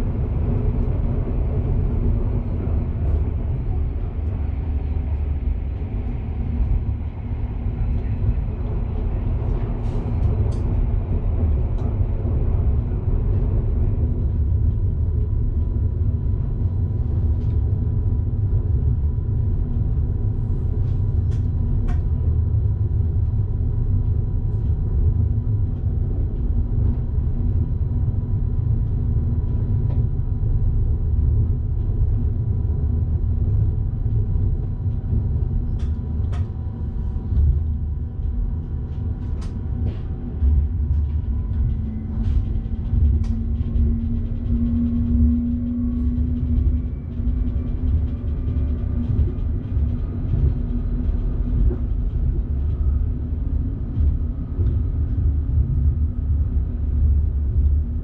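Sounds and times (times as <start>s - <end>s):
faint hums: 0.0s - 58.0s
train rumble: 0.0s - 58.0s.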